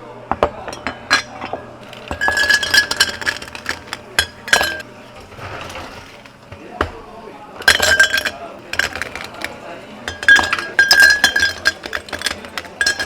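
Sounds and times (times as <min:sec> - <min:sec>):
glassware clinking: 0:00.3 - 0:13.0.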